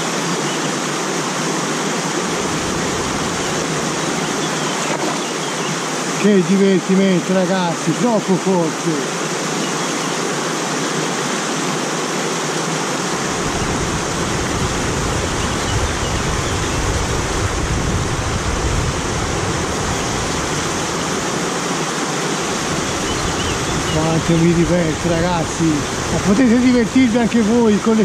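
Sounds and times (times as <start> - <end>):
water rushing down stream cascade: 0.0 - 28.0.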